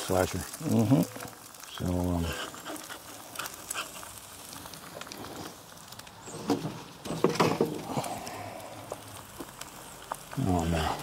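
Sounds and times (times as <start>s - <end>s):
eggs sizzling in a pan: 0.0s - 11.0s.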